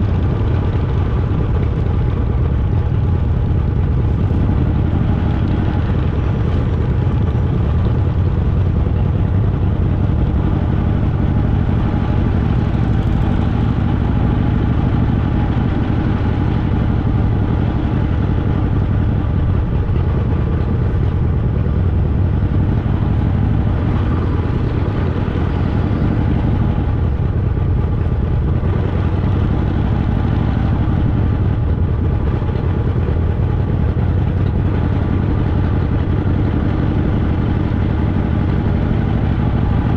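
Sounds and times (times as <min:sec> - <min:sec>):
motorcycle engine low rumble: 0:00.0 - 0:39.9.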